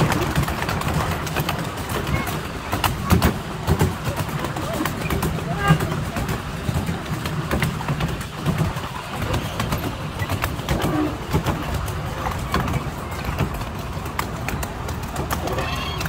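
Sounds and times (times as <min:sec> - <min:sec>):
train wheels rumbling: 0:00.0 - 0:16.0
wheels clicking and clattering: 0:00.0 - 0:16.0.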